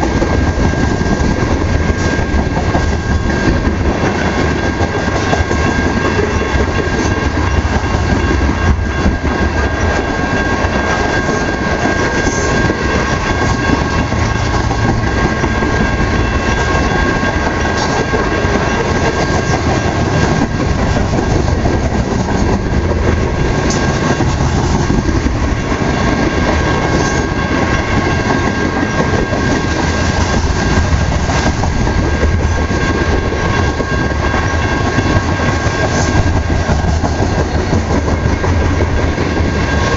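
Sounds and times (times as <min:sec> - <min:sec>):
freight train rolling past: 0:00.0 - 0:39.9
wheels clacking over rail joints: 0:00.0 - 0:39.9.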